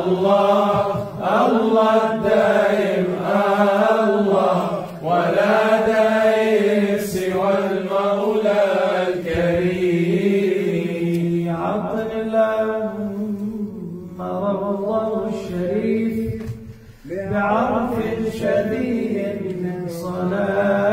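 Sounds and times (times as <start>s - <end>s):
person chanting: 0.0s - 20.9s.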